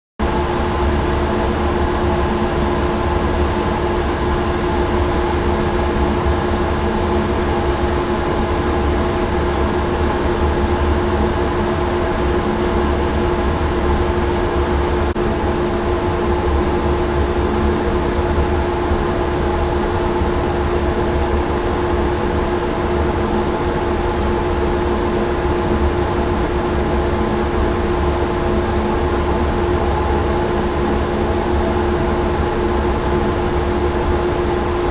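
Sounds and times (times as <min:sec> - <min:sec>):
ventilation system hum: 0:00.2 - 0:34.9.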